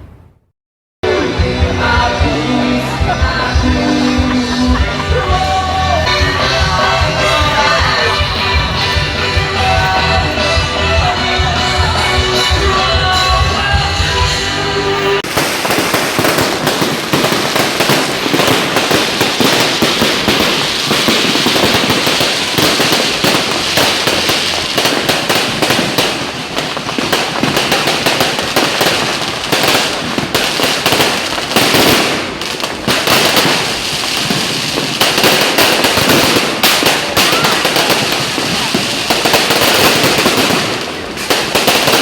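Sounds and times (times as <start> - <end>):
fireworks crackling: 1.8 - 42.0.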